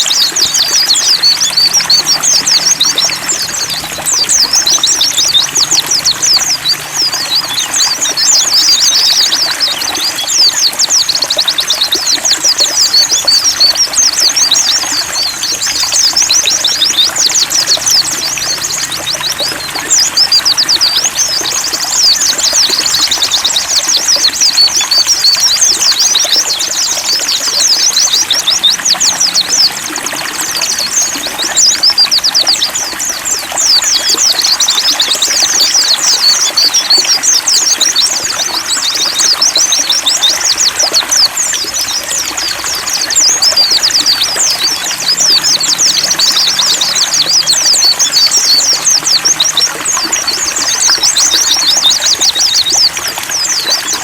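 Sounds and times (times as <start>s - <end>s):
birds twittering in high chirps: 0.0s - 54.0s
trickling water: 0.0s - 54.0s.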